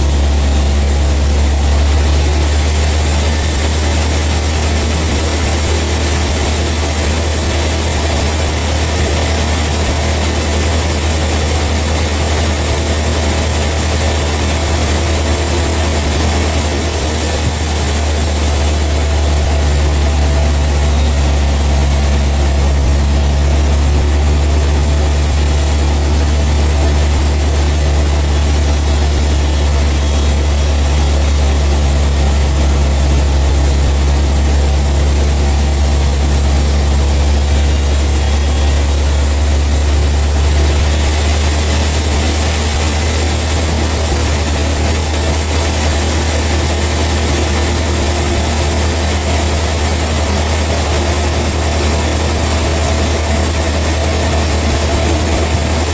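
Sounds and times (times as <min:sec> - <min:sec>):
sawmill machinery droning: 0:00.0 - 0:55.9.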